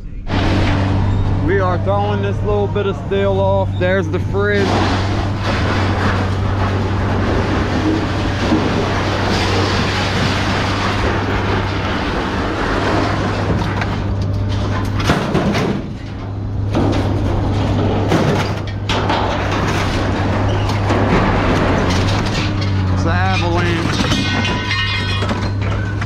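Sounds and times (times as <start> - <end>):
engine hum: 0.0 - 26.0
scrap steel clattering: 0.3 - 26.0.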